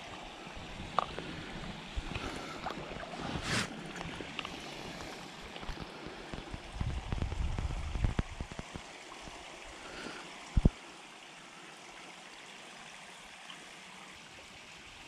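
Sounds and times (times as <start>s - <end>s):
light rain on water: 0.0s - 15.0s.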